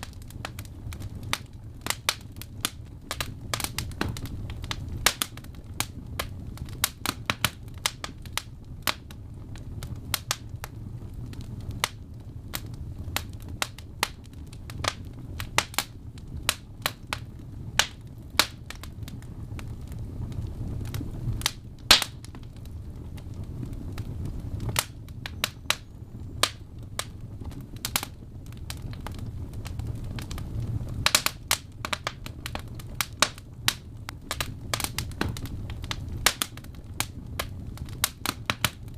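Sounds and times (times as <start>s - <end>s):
log fire crackling: 0.0s - 38.9s.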